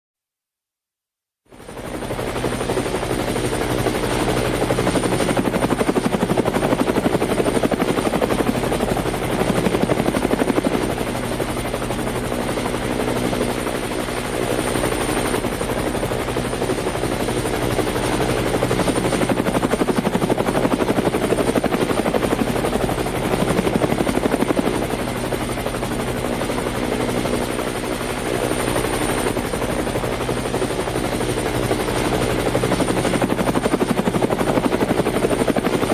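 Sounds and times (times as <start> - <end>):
helicopter rotor blades beating: 1.5 - 35.9.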